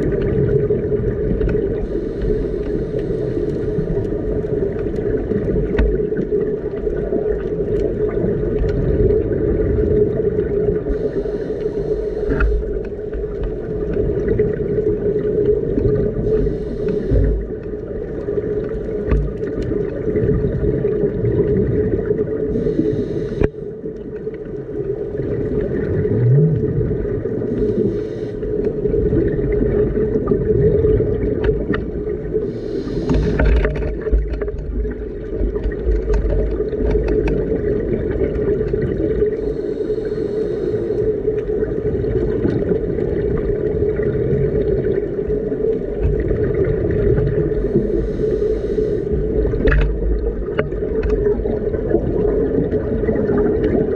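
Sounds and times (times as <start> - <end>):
regulator bubbles underwater: 0.0 - 53.9.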